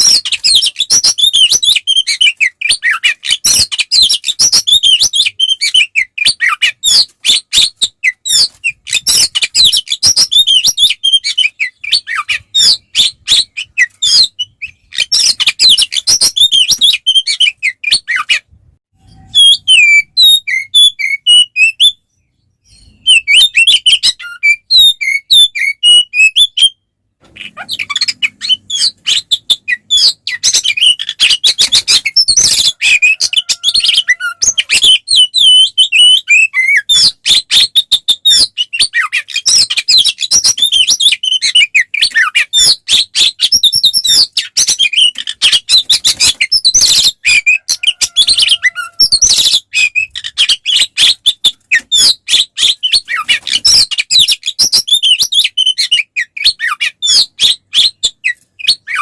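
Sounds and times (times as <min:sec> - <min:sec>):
bird singing rapid chirps: 0:00.0 - 0:18.4, 0:27.4 - 0:59.0.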